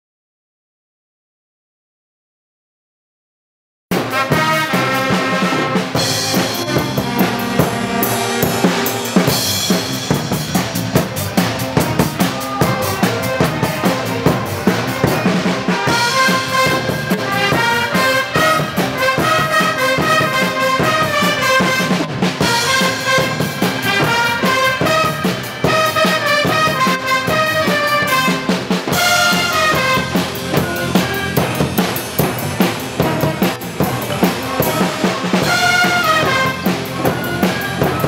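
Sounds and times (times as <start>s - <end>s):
brass and saxophones playing: 3.9s - 38.0s
drum kit beat: 3.9s - 38.0s.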